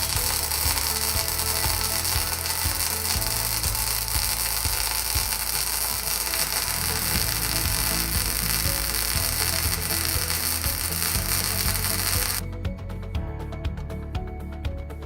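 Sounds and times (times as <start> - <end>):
welding arc crackling: 0.0 - 12.4.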